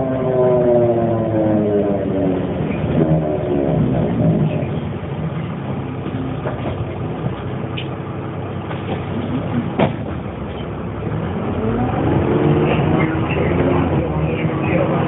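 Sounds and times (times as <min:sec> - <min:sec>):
bus engine rumbling: 0:00.0 - 0:15.0.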